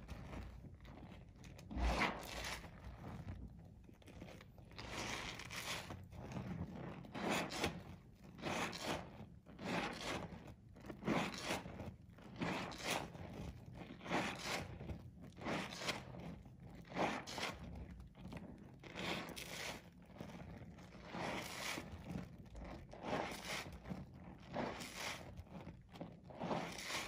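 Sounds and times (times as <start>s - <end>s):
wet soap squelching: 0.0s - 27.0s.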